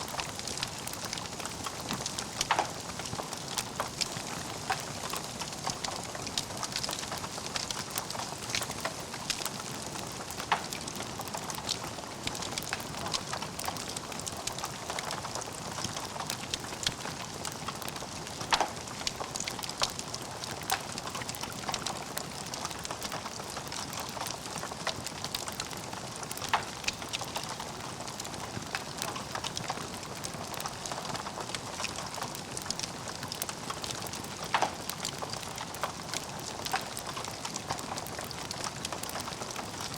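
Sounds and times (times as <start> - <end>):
fire popping: 0.0 - 39.9
log fire crackling: 0.0 - 39.9.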